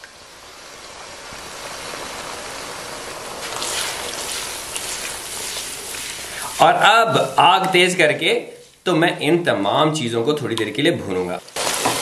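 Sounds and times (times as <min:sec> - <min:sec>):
yogurt sizzling in hot oil: 0:00.0 - 0:08.9, 0:11.2 - 0:12.0.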